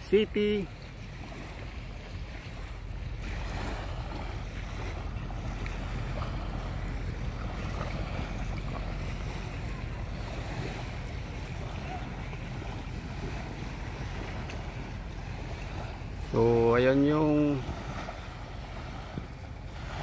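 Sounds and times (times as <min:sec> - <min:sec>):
small waves washing on shore: 0:00.0 - 0:20.0
wind buffeting microphone: 0:00.7 - 0:20.0.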